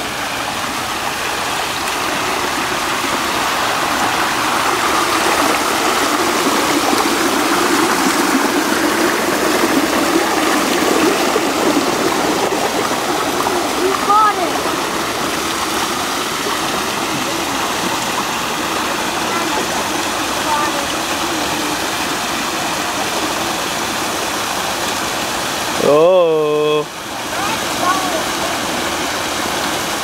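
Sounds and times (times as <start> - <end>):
water rushing down waterfall: 0.0 - 30.0.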